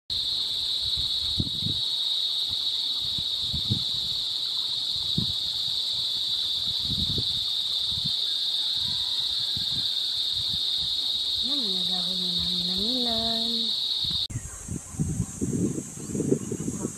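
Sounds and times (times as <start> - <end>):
high-pitched insect chorus: 0.1 - 16.9.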